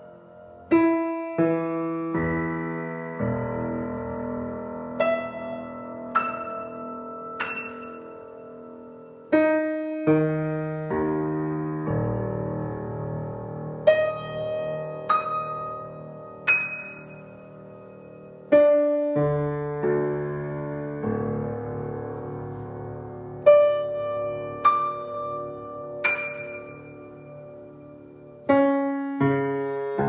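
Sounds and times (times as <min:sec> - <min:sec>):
grand piano played slowly: 0:00.0 - 0:30.0.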